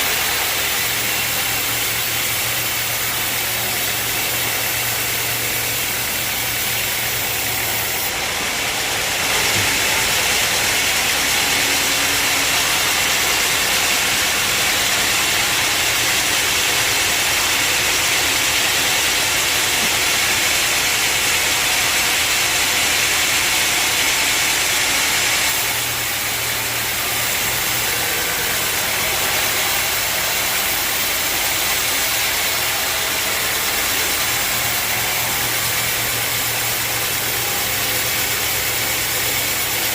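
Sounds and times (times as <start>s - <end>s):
hissing machinery: 0.0s - 39.9s
sawmill machinery humming: 0.0s - 39.9s.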